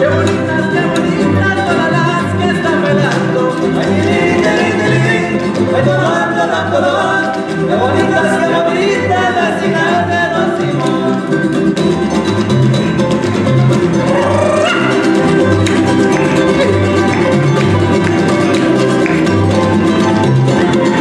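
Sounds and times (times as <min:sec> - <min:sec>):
plucked bass line: 0:00.0 - 0:21.0
strummed guitars: 0:00.0 - 0:21.0.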